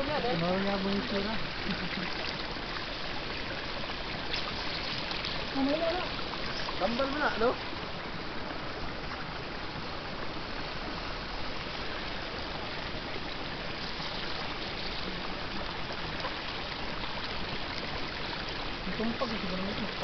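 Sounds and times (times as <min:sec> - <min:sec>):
boiling hot spring water rushing: 0:00.0 - 0:20.0.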